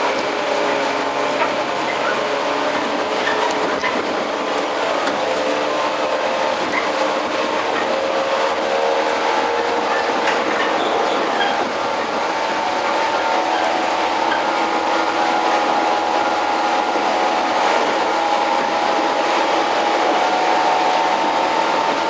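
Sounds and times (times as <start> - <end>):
train motors and gears whining: 0.0 - 22.0
train wheels rumbling on rails: 0.0 - 22.0.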